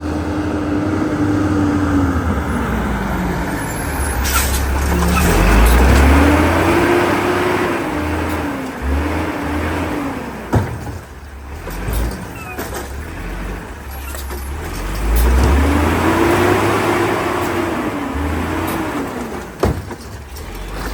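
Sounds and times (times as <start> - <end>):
truck engine revving: 0.0 - 20.9.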